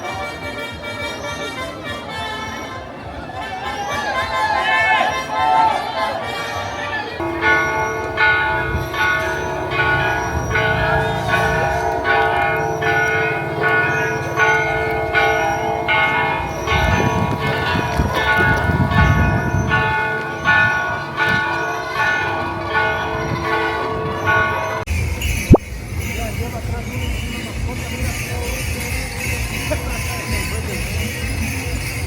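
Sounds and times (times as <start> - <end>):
bells ringing a peal: 0.0 - 32.0.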